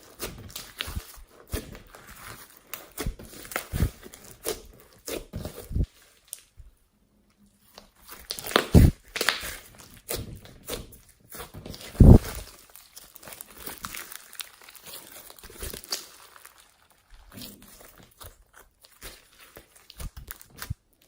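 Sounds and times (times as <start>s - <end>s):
crinkling handling noises: 0.0s - 21.0s.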